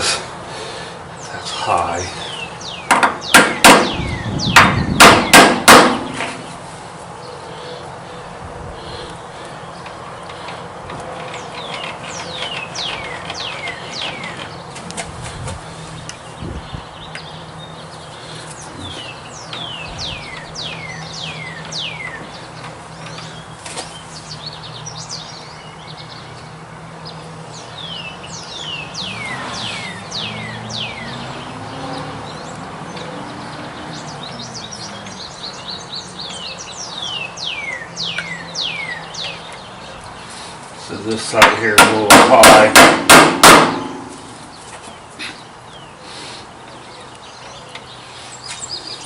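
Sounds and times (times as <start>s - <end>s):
bird chirping: 1.2s - 5.4s, 7.2s - 14.9s, 15.6s - 42.7s, 43.7s - 49.0s.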